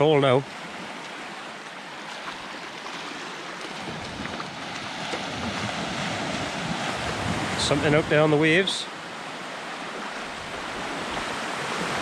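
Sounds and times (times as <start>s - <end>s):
surf breaking on shore: 0.0s - 12.0s.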